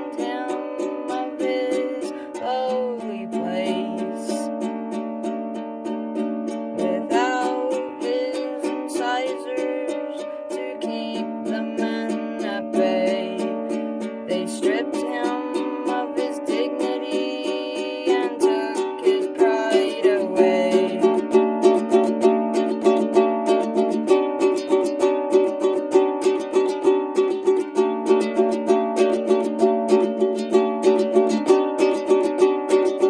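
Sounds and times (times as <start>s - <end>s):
person singing: 0.0s - 5.2s, 6.7s - 33.0s
ukulele strumming: 0.0s - 33.0s.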